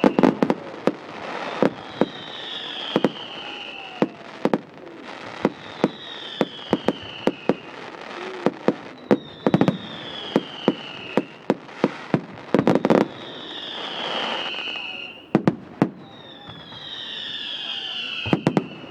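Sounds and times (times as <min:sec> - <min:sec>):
falling firework whistles: 0:00.0 - 0:18.9
fireworks bangs: 0:00.0 - 0:18.9.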